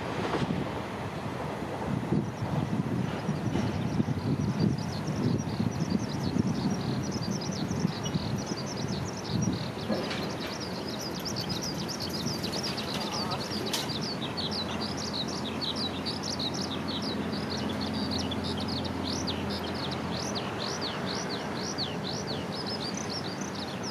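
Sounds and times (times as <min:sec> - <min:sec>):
passing train rumble: 0:00.0 - 0:23.9
small birds chirping: 0:03.1 - 0:23.9.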